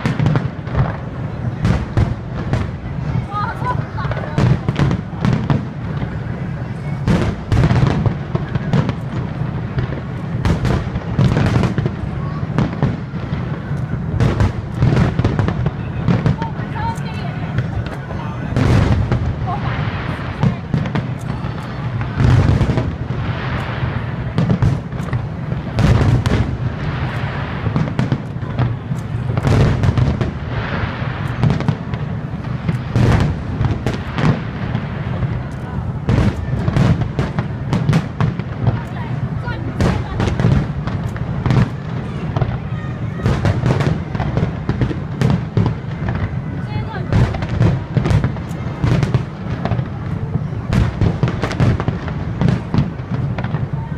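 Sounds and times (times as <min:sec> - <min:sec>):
fireworks shells bursting: 0:00.0 - 0:53.7
continuous low rumble: 0:00.0 - 0:53.9.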